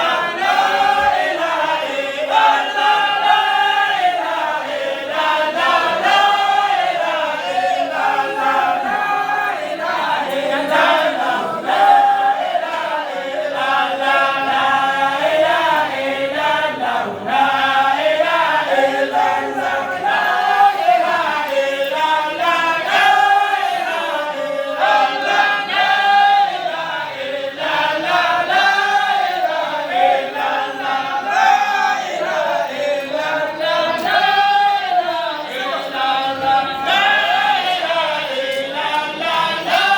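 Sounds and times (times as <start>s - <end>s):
group chanting a devotional song: 0.0s - 39.9s.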